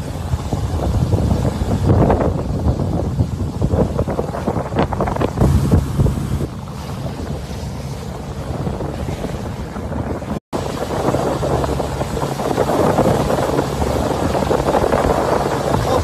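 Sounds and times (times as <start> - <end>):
boat engine humming: 0.0 - 16.0
rushing water: 0.0 - 16.0
wind buffeting microphone: 0.0 - 16.0.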